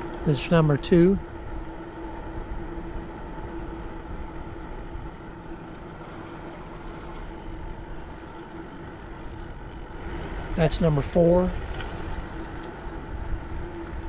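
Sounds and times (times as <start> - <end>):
bicycle rolling: 0.0 - 14.0
low hum: 0.0 - 14.0
wind rumble on microphone: 0.0 - 14.0.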